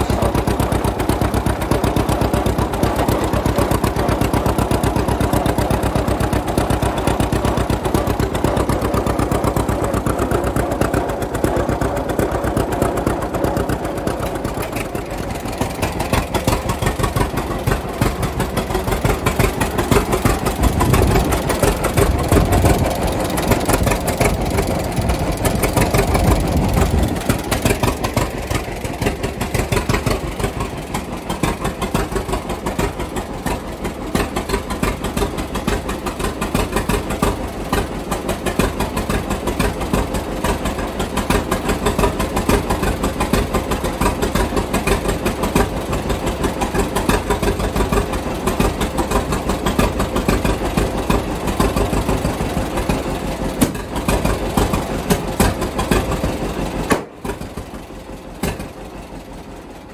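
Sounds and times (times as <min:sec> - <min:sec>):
tractor engine popping: 0:00.0 - 0:59.9.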